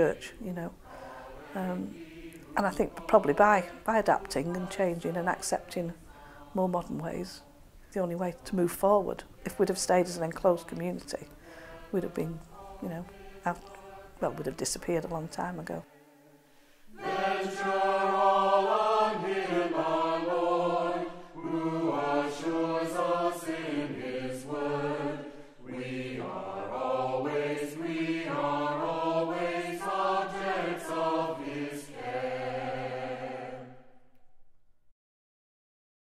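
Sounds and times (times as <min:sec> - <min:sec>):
choir singing in harmony: 0:00.0 - 0:34.1.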